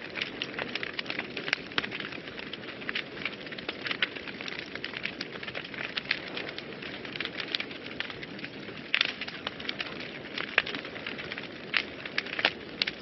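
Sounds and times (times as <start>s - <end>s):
fire crackling and popping: 0.0s - 13.0s
fire flames rushing: 0.0s - 13.0s.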